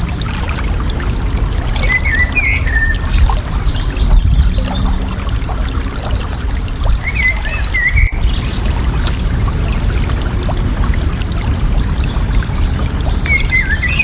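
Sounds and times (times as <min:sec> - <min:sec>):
water babbling and trickling: 0:00.0 - 0:14.0.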